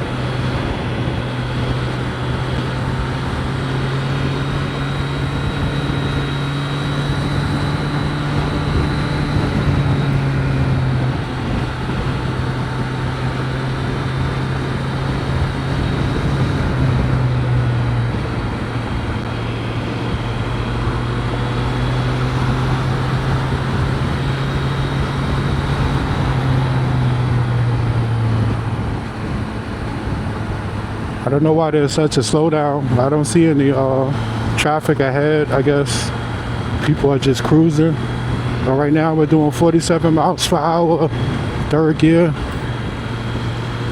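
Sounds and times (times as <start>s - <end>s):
motorcycle engine cruising: 0.0s - 43.9s
road noise: 0.0s - 43.9s
wind noise: 0.0s - 43.9s.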